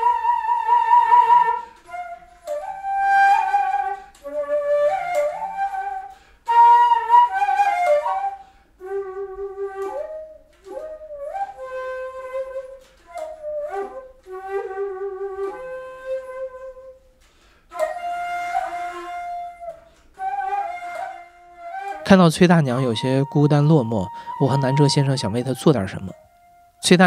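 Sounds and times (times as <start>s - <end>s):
flute melody: 0.0s - 27.0s.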